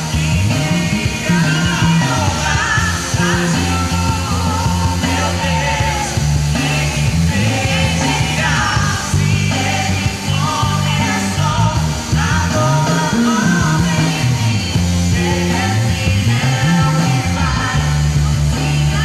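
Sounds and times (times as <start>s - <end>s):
live gospel band: 0.0s - 19.0s
person singing: 0.0s - 19.0s
pulsing bass line: 0.0s - 19.0s.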